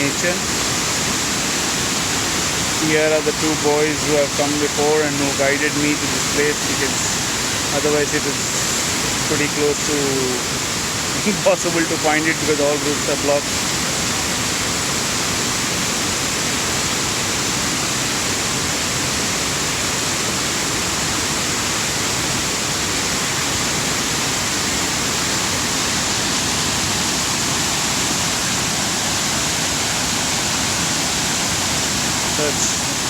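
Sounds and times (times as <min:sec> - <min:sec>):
waterfall roaring over rocks: 0:00.0 - 0:33.0.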